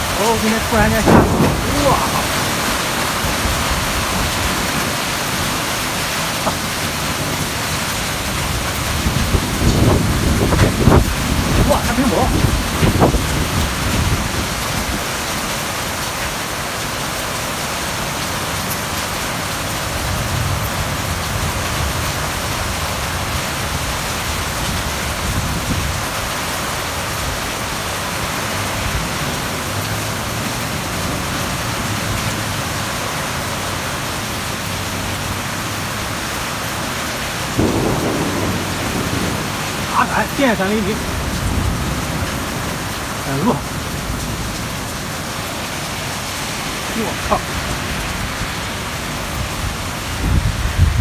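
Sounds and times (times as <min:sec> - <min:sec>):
heavy rain and hail: 0:00.0 - 0:51.0.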